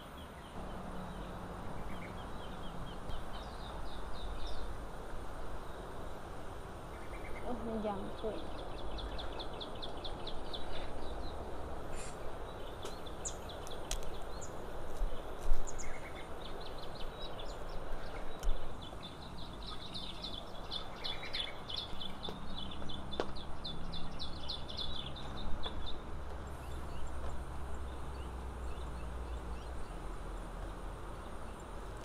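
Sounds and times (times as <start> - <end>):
outdoor background hiss: 0.0 - 32.0
small birds chirping: 0.0 - 32.0.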